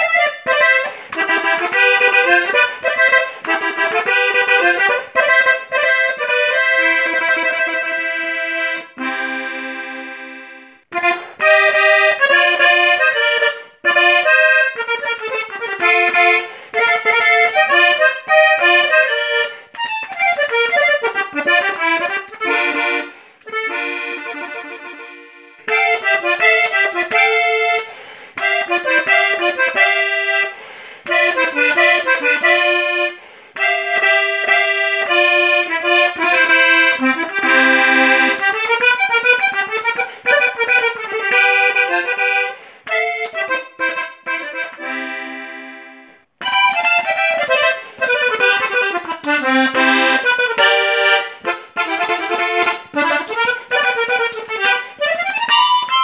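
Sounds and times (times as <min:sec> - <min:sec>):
button accordion melody: 0:00.0 - 0:56.0.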